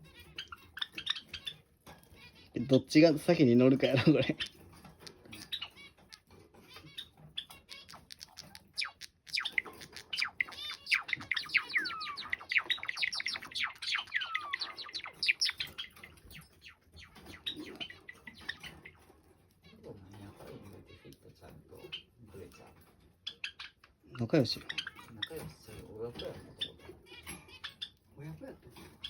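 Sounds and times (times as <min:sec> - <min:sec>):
sparrows singing: 0:00.0 - 0:29.0.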